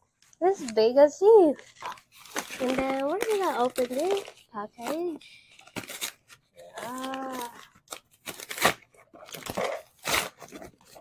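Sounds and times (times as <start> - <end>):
paper bag tearing and crinkling: 1.5 - 11.0.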